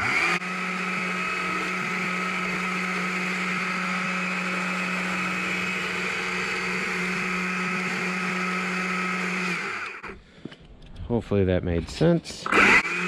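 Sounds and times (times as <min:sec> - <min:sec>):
chainsaw cutting log: 0:00.0 - 0:10.2, 0:12.5 - 0:13.0.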